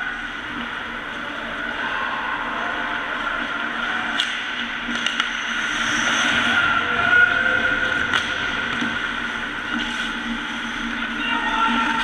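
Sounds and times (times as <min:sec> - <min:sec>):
arena noise: 0:00.0 - 0:12.0
skates rumbling on ice: 0:00.2 - 0:12.0.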